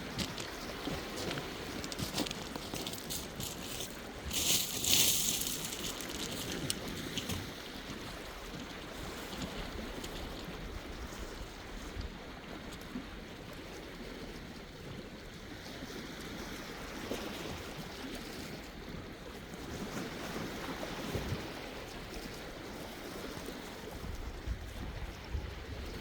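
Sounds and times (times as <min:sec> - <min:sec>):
sea waves washing: 0:00.0 - 0:26.0
wind rumble on microphone: 0:00.0 - 0:26.0.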